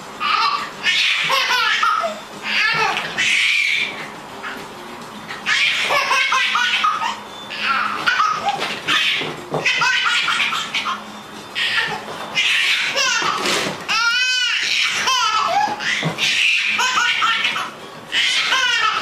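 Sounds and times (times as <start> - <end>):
baby laughing hysterically: 0.2 - 4.0, 5.4 - 11.0, 11.6 - 19.0.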